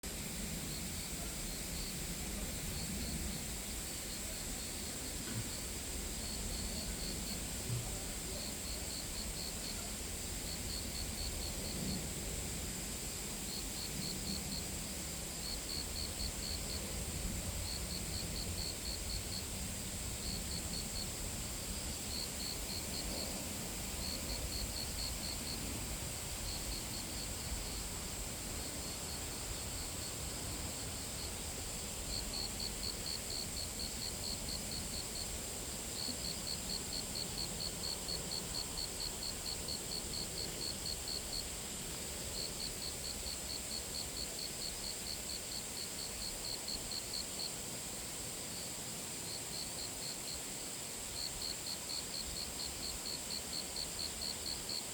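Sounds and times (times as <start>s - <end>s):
steady high hiss: 0.0s - 54.9s
insect chirping: 0.2s - 54.9s.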